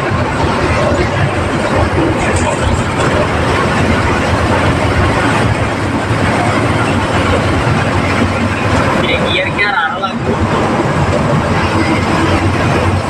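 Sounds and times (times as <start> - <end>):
heavy vehicle engine and road noise: 0.0 - 13.0.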